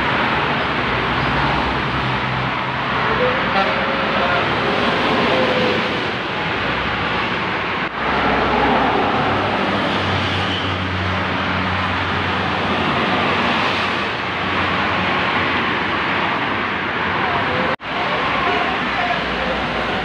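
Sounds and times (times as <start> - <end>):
highway traffic rushing: 0.0 - 20.0.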